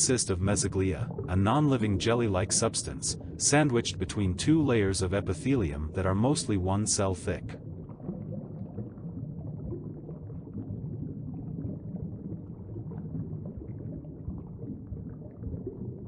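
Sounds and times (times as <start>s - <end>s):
low underwater-style rumble: 0.0s - 16.0s.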